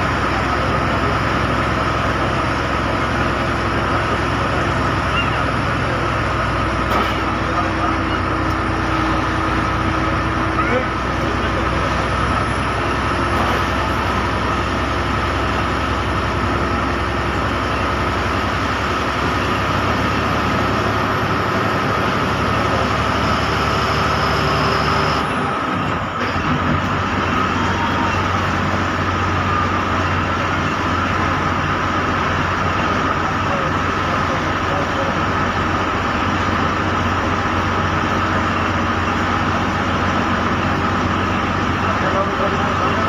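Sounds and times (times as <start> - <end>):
bus engine running: 0.0 - 43.0.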